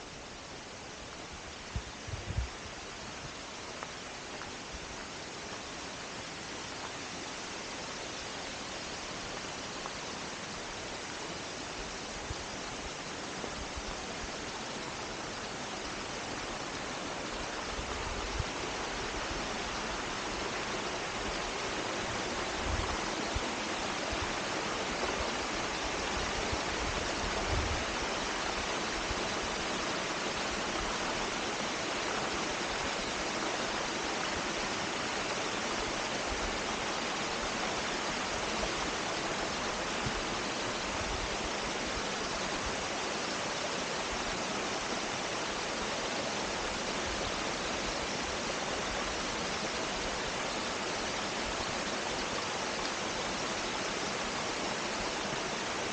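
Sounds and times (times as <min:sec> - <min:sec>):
stream cascading over rocks: 0:00.0 - 0:55.9.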